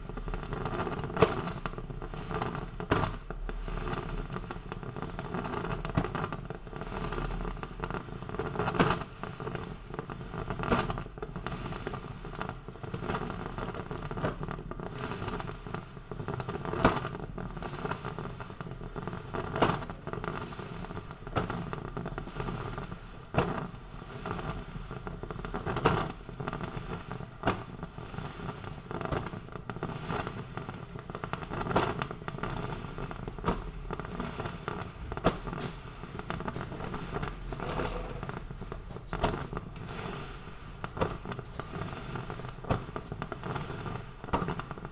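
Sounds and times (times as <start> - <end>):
coffee maker hissing and bubbling: 0.0 - 44.9.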